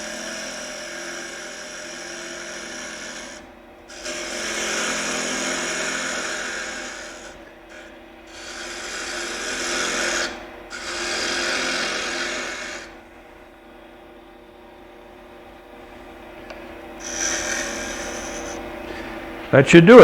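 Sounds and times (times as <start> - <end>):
lathe tool shaving wood: 0.0 - 13.5, 16.8 - 20.0
lathe motor humming: 0.0 - 20.0.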